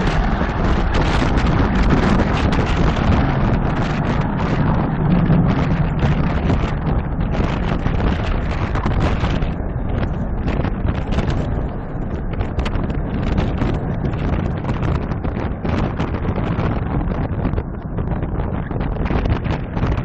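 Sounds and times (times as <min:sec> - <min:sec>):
jet engines at full afterburner: 0:00.0 - 0:20.0.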